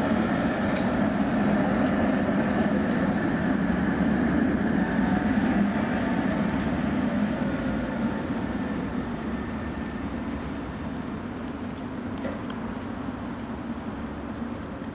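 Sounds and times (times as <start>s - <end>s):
tram rumbling along tracks: 0.0s - 14.9s.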